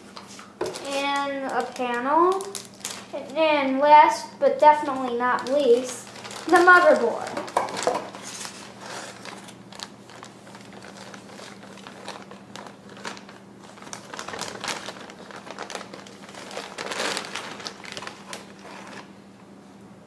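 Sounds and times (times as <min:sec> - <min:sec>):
plastic packaging crinkling: 0:00.6 - 0:03.7, 0:04.6 - 0:19.2.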